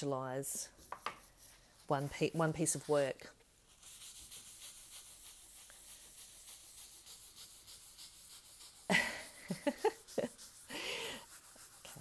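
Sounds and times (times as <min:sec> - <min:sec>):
tissue rubbing on card: 0:00.0 - 0:12.0.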